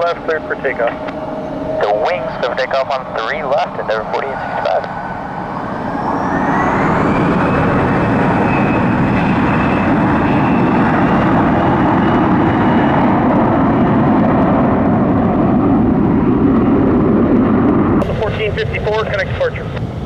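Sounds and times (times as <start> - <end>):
jet engines at takeoff whining: 0.0 - 20.0.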